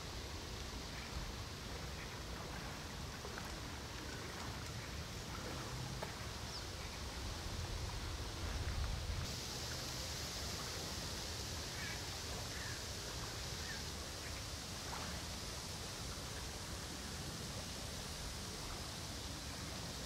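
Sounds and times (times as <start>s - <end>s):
moving water: 0.0s - 20.0s
wind: 0.0s - 20.0s.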